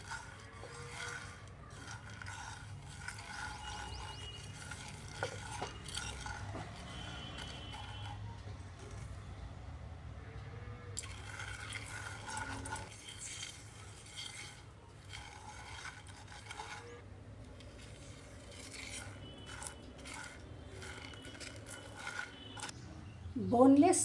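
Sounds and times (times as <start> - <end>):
spatula scraping in a pan: 0.0 - 9.1, 11.0 - 22.8.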